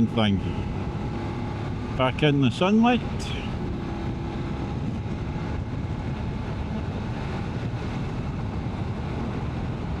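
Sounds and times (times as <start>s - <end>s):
wind rush on microphone: 0.4s - 10.0s.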